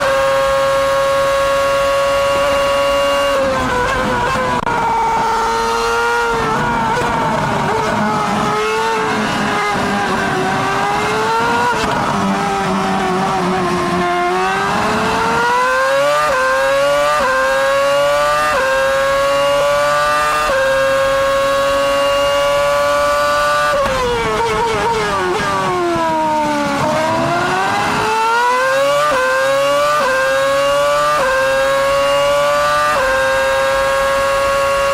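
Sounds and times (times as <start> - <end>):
racing car engine at full throttle: 0.0 - 34.9.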